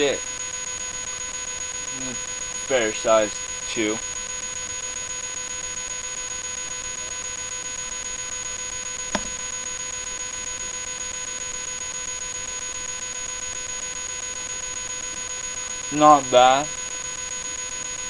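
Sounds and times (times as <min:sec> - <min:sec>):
electrical whine: 0:00.0 - 0:18.0.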